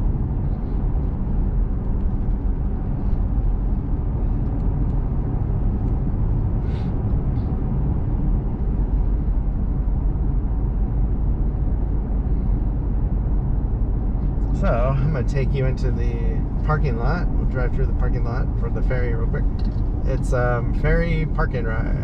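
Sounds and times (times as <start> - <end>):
truck engine and tyre rumble: 0.0 - 22.0.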